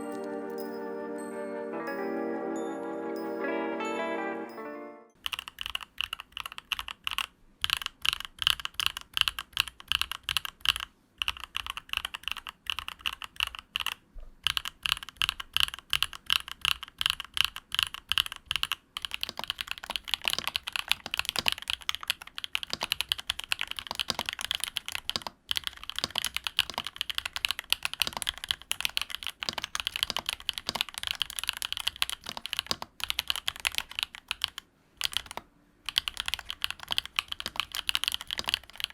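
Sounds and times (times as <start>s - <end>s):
fast typing on mechanical keyboard: 5.2s - 38.9s.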